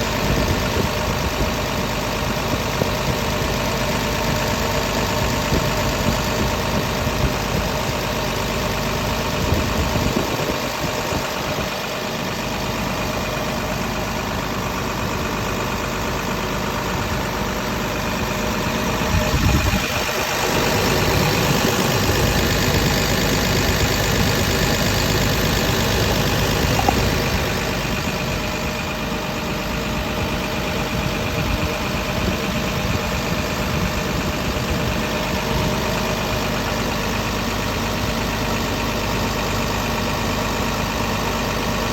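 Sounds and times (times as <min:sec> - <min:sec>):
excavator diesel engine idling: 0:00.0 - 0:41.9.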